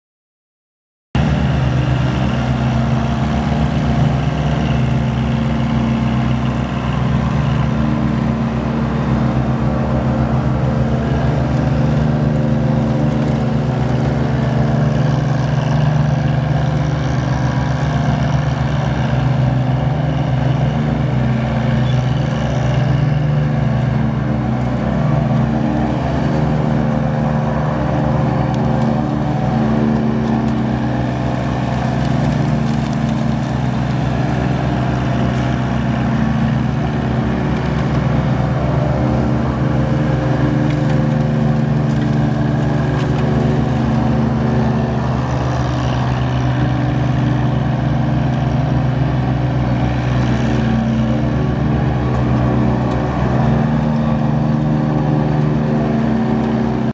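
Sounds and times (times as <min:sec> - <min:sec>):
mower diesel engine running: 0:01.2 - 0:56.9.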